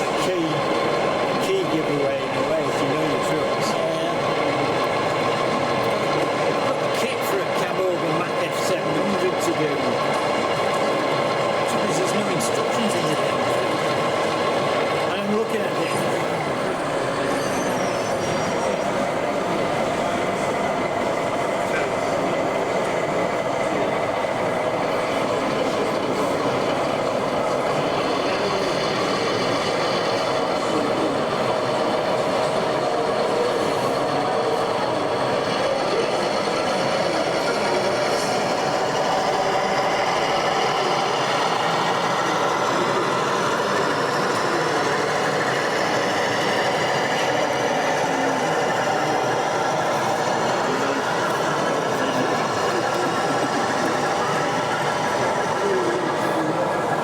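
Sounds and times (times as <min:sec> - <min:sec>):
crowd talking: 0:00.0 - 0:57.0.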